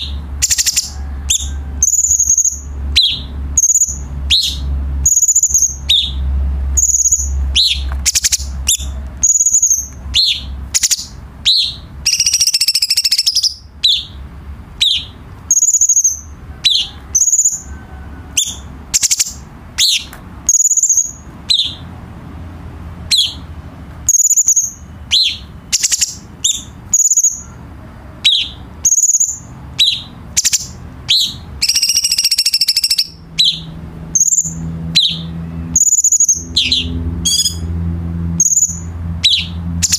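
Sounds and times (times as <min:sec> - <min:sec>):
songbird calling: 0:00.0 - 0:22.0, 0:23.0 - 0:39.9
buzzy rattling bird phrase: 0:00.0 - 0:37.8, 0:38.4 - 0:39.9.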